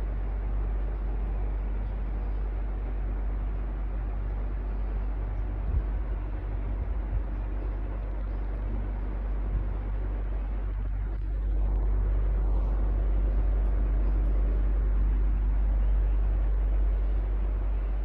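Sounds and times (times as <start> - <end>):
electric fan running: 0.0 - 18.0.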